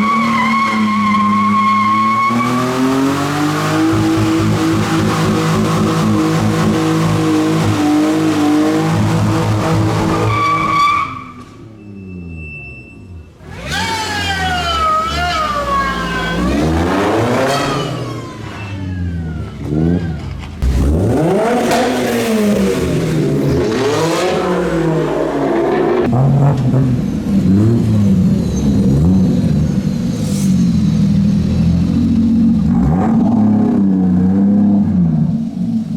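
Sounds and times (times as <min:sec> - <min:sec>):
car engines revving: 0:00.0 - 0:11.6, 0:13.3 - 0:35.9.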